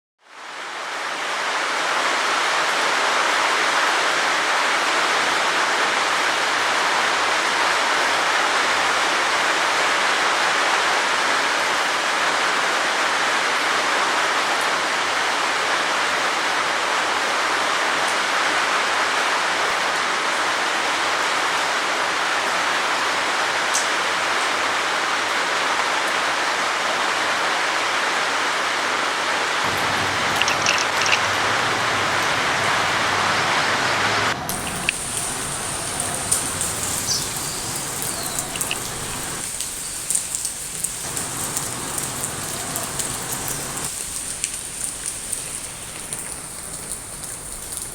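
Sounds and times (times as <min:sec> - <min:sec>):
heavy rain falling: 0:00.3 - 0:47.9.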